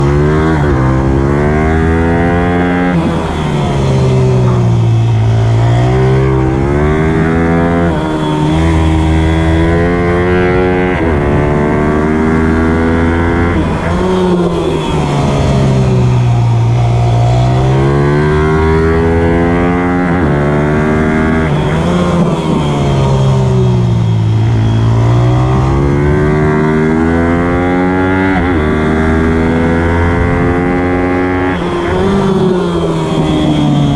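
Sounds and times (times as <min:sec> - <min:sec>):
motorbike engine revving: 0:00.0 - 0:33.9.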